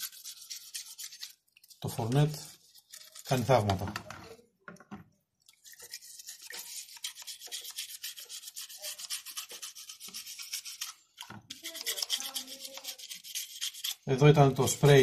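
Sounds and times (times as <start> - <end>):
toothbrush scrubbing plastic: 0.0 - 4.1, 5.5 - 15.0.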